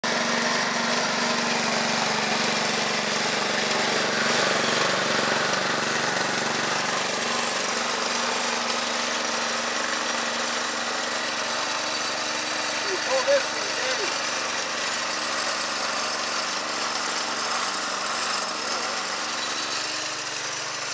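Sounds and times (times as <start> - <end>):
small gasoline engine running: 0.0 - 20.9.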